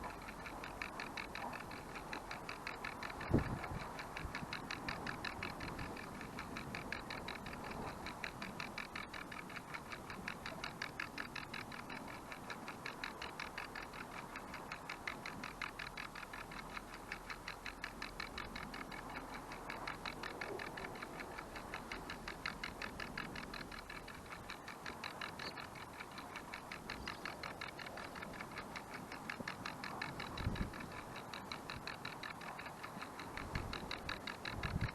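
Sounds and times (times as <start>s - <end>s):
kitchen timer ticking: 0.0s - 34.9s.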